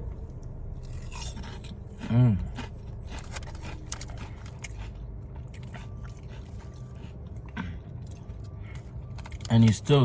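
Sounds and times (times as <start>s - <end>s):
chewing crunchy chips: 0.7s - 10.0s.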